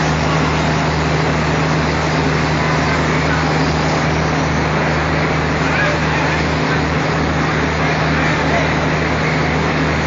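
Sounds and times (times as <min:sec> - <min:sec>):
diesel engine drone: 0:00.0 - 0:10.0.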